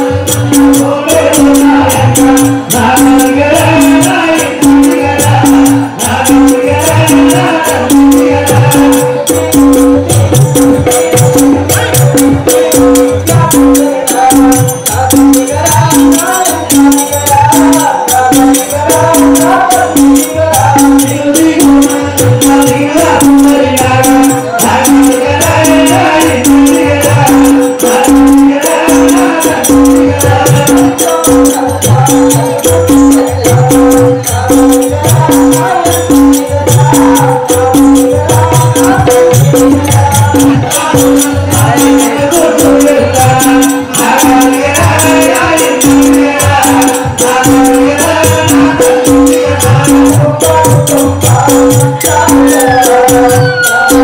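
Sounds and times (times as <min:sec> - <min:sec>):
jingling percussion: 0:00.0 - 0:54.0
person singing: 0:00.0 - 0:54.0
steady drum beat: 0:00.0 - 0:54.0.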